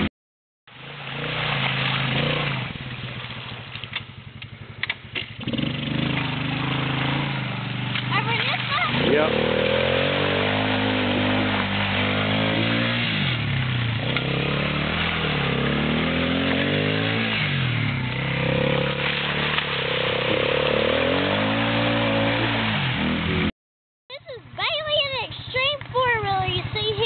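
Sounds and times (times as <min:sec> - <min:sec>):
atv engine revving: 0:00.7 - 0:23.5, 0:24.1 - 0:27.0.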